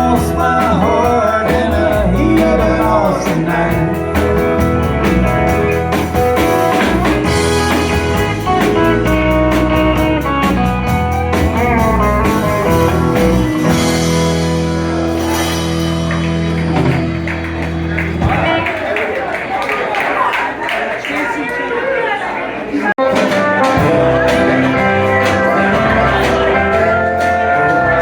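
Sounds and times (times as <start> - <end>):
guitar: 0.0 - 18.8, 23.0 - 28.0
live country band playing: 0.0 - 18.8, 23.0 - 28.0.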